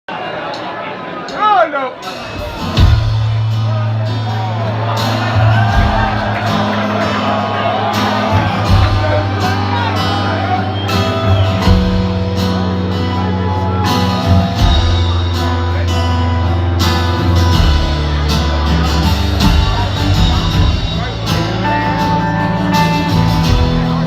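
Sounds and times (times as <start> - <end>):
guitar: 2.0 - 24.0
held bass notes: 2.7 - 24.0.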